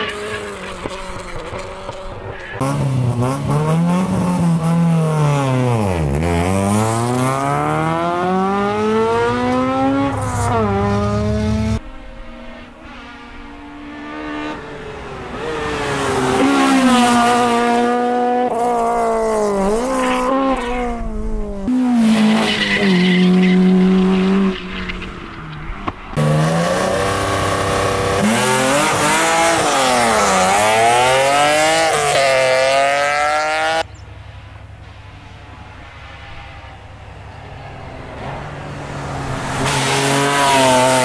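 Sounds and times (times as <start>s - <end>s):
rally car engine revving high: 0.0s - 25.1s, 25.8s - 33.9s, 37.6s - 41.0s
distant car engine: 0.0s - 41.0s.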